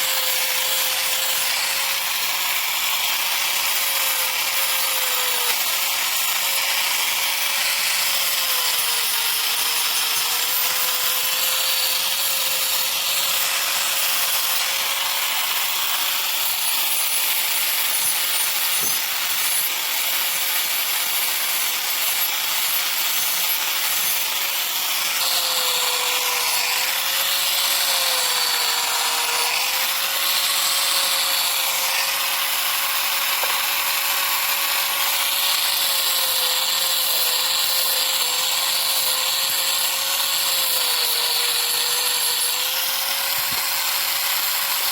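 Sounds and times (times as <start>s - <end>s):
electric power tool motor whine: 0.0s - 44.9s.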